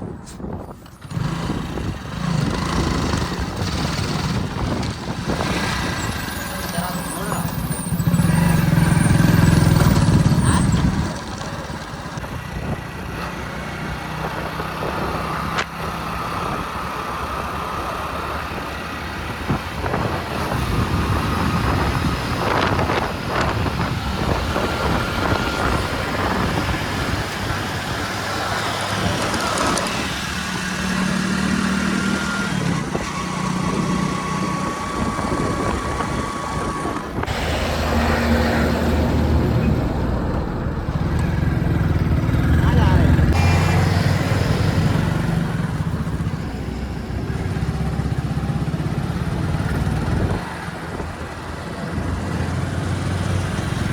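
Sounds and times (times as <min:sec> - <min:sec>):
backhoe loader engine: 0:00.0 - 0:53.9
dump truck engine: 0:00.0 - 0:53.9.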